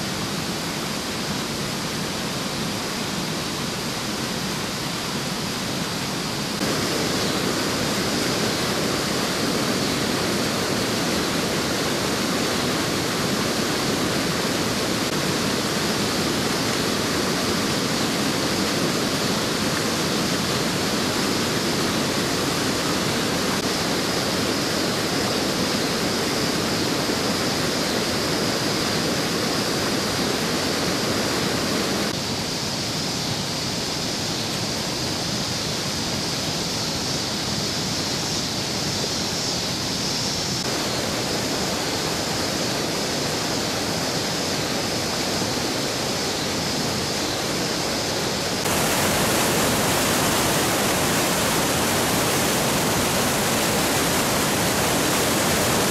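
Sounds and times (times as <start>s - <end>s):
churning whitewater: 0.0s - 32.2s, 35.1s - 55.9s
floodwater rushing over road: 0.0s - 32.2s, 40.6s - 55.9s.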